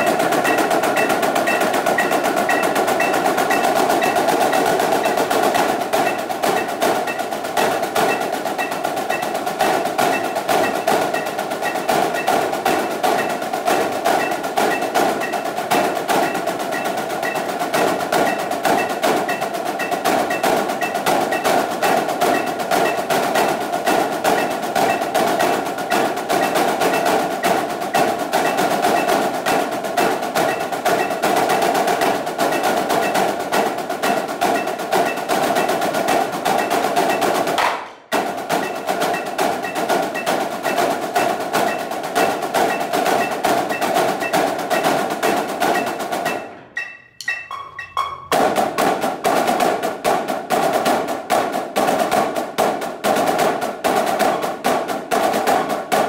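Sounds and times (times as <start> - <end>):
snare drumsticks on practice pads: 0.0 - 56.0.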